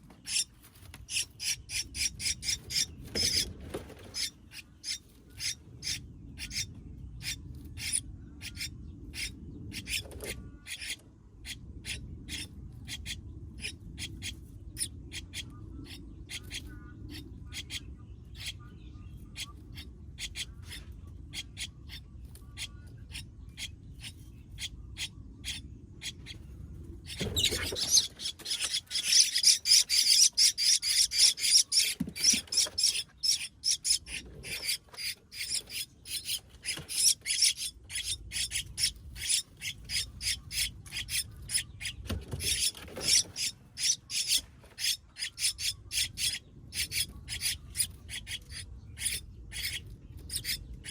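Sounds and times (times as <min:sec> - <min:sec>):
baby birds rasping chirps: 0:00.0 - 0:50.9.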